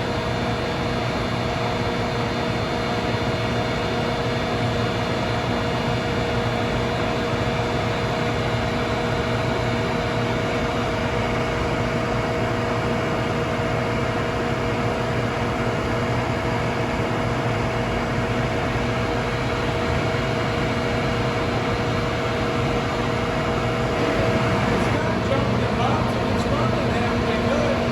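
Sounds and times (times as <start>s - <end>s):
machine hum with constant tones: 0.0s - 27.9s.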